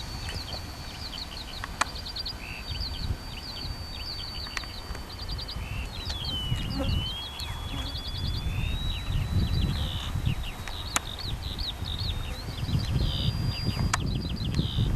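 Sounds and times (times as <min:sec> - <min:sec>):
birds chirping: 0:00.0 - 0:14.9
wind rumble on microphone: 0:00.0 - 0:14.9.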